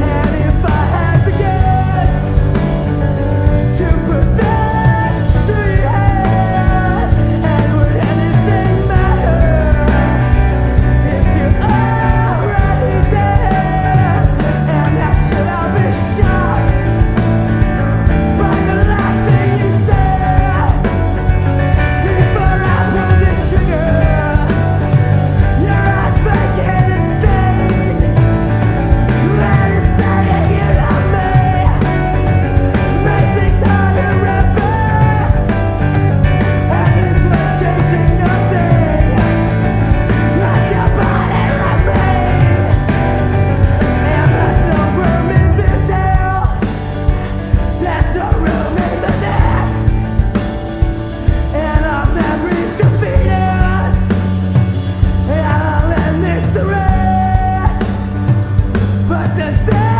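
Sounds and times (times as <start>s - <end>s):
rock song with singing: 0.0s - 59.9s.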